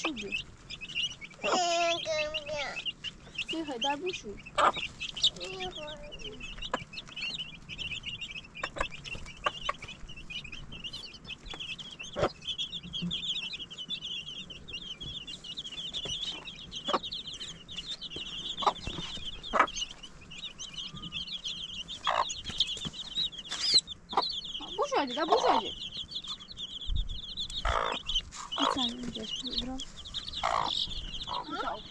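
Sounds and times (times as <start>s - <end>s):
chicks peeping: 0.0s - 31.9s.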